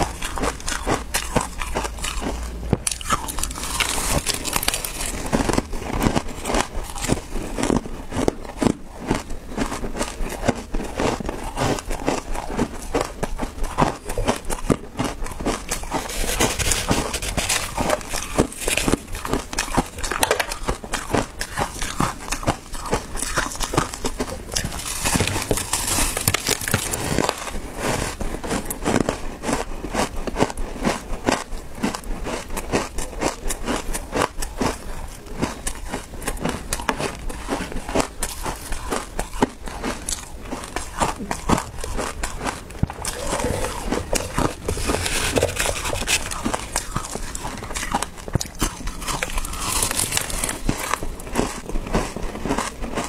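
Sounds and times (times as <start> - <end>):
chewing crushed ice: 0.0 - 53.0.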